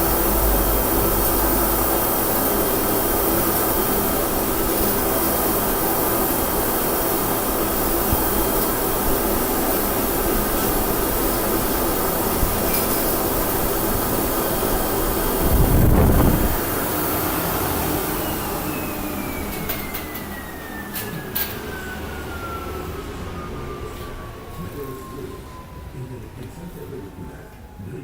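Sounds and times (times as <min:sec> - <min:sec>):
industrial vacuum running: 0:00.0 - 0:28.0.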